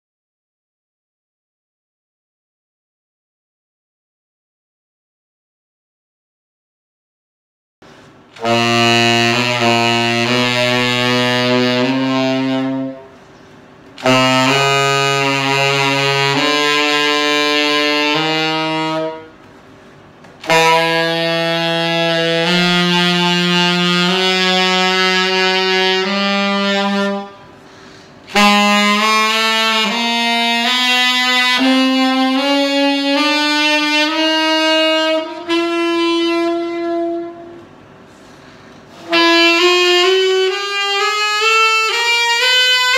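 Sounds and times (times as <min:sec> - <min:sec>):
tenor saxophone long notes: 0:08.0 - 0:42.9.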